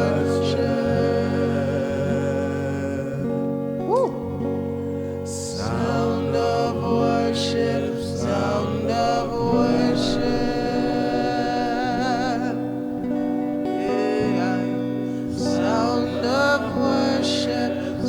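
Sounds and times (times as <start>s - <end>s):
person singing long notes: 0.0s - 18.0s
sustained held chords: 0.0s - 18.0s.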